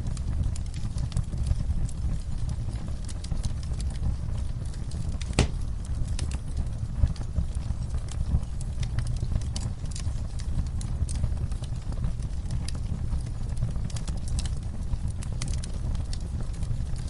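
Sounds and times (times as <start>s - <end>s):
low steady rumble: 0.0s - 17.0s
wood fire crackling: 0.0s - 17.0s.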